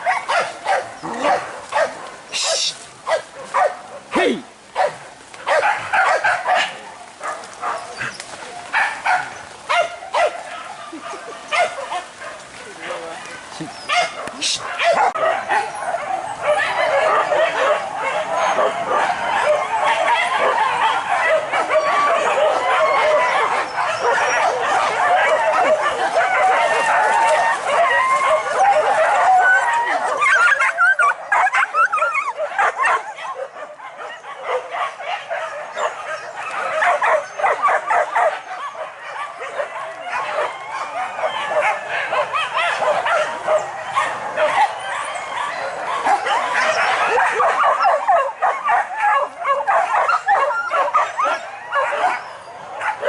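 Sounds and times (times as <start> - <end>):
dogs yelping and barking: 0.0 - 53.0.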